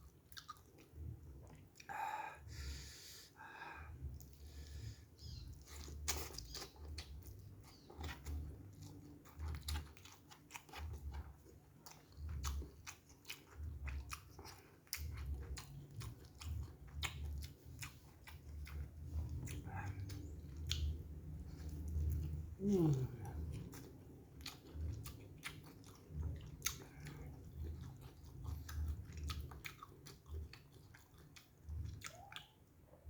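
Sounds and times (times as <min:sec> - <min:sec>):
chewing and biting food: 0:00.0 - 0:01.9, 0:03.9 - 0:33.0.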